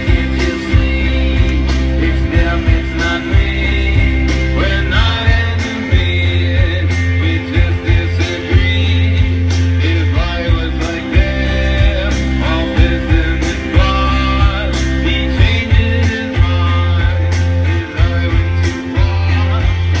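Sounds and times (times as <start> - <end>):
electric guitars: 0.0 - 20.0
heavy bass: 0.0 - 20.0
person singing: 0.0 - 20.0
steady drum beat: 0.0 - 20.0.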